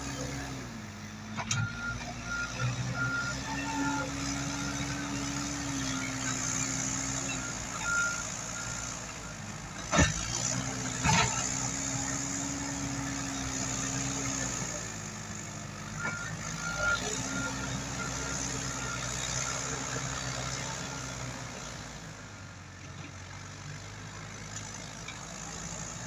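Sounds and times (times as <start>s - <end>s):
backhoe diesel engine revving: 0.0s - 26.0s.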